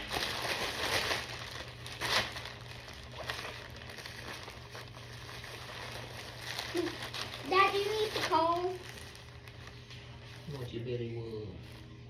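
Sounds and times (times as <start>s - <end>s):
plastic package crinkling: 0.0s - 10.8s.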